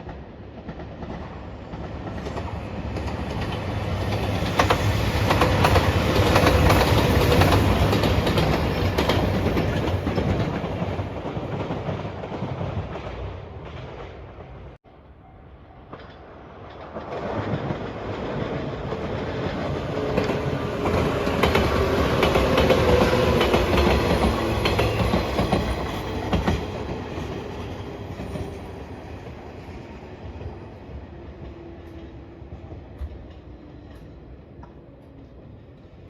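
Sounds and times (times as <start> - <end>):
train wheels clacking on rails: 0.0 - 14.6, 15.8 - 36.0.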